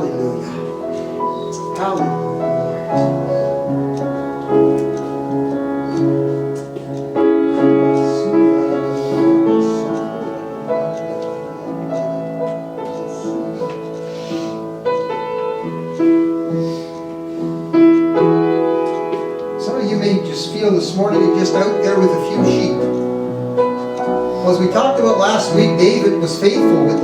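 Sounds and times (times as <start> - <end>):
soft piano chords: 0.0 - 27.0.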